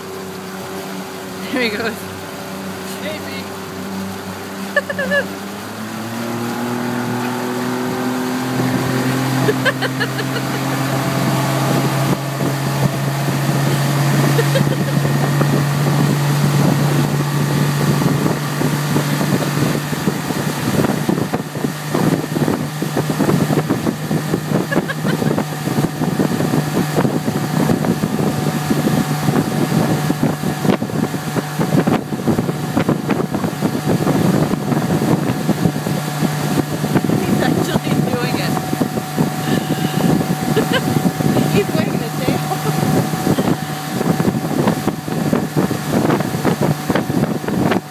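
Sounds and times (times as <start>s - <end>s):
motorboat engine humming: 0.0s - 47.9s
wind buffeting microphone: 0.0s - 47.9s.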